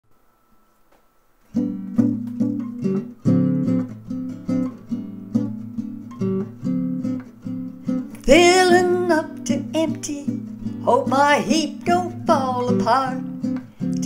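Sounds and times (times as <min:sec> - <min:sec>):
acoustic guitar strumming: 0:01.4 - 0:14.0.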